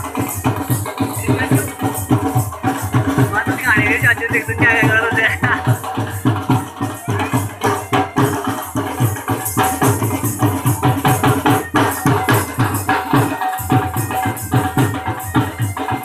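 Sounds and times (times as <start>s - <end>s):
dhol drums beating: 0.0s - 16.0s.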